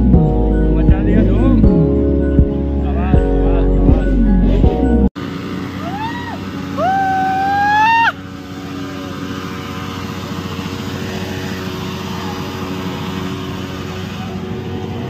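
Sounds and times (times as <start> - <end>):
loud high rising tone: 0.0 - 15.0
motorcycle engine revving: 0.0 - 15.0.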